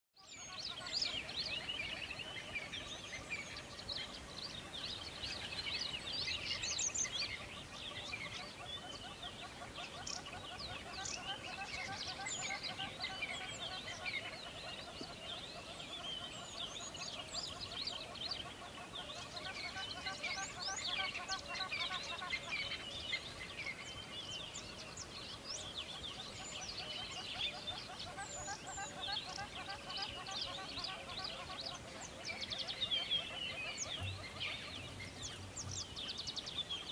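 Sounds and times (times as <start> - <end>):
birds chirping and trilling: 0.2 - 36.9.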